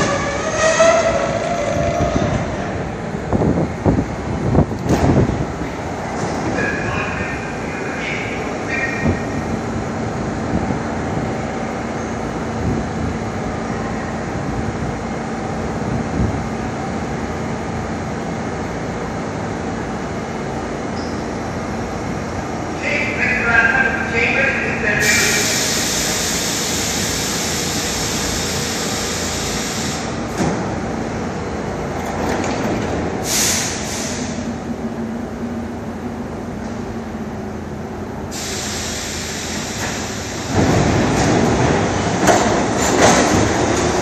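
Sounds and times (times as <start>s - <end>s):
subway train rumbling and clattering: 0.0s - 44.0s
train equipment low hum: 0.0s - 44.0s.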